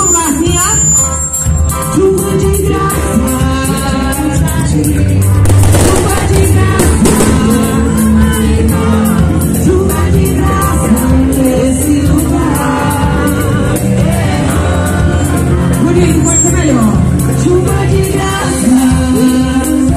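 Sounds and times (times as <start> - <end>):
worship song by live band: 0.0 - 19.9.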